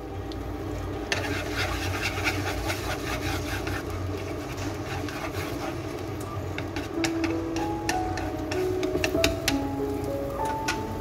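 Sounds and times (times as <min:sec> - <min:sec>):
egg sizzling in a frying pan: 0:00.0 - 0:11.0.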